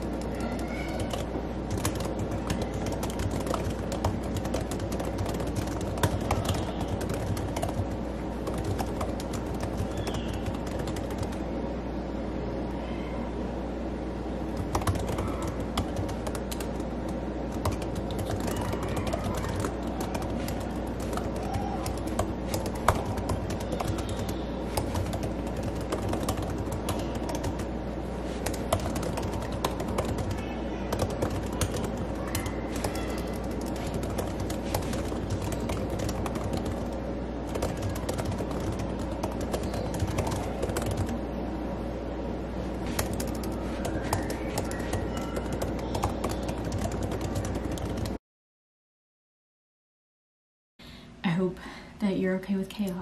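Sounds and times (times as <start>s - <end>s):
laptop keyboard typing: 0.0s - 11.5s, 14.5s - 41.3s, 42.8s - 48.2s.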